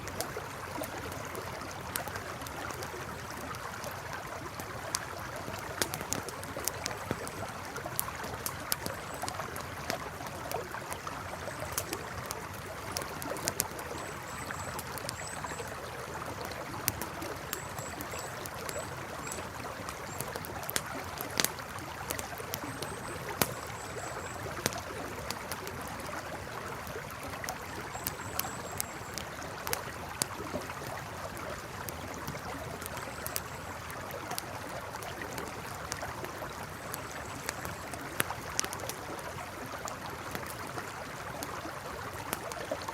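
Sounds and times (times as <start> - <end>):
campfire crackling and popping: 0.0 - 42.9
river flowing: 0.0 - 42.9.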